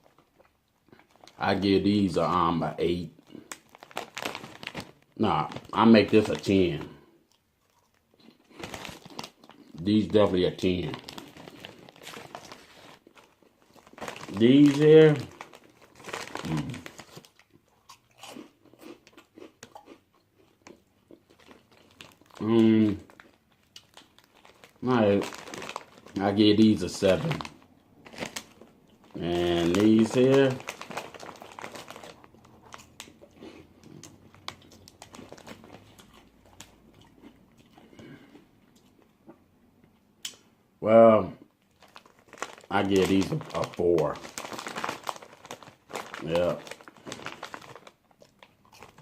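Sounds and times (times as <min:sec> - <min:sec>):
person chewing crunchy chips: 0:00.0 - 0:01.4, 0:03.2 - 0:10.0, 0:10.6 - 0:26.4, 0:27.2 - 0:39.2, 0:41.7 - 0:49.0.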